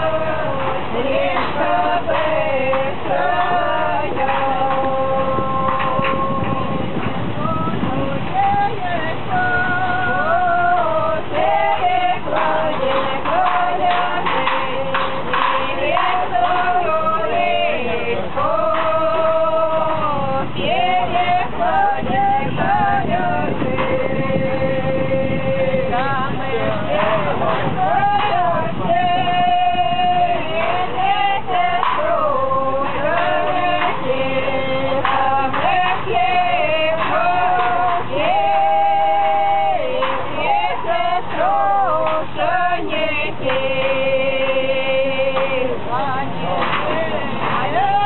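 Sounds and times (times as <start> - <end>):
low noise: 0.0 - 48.0
person singing slow melody: 0.0 - 48.0.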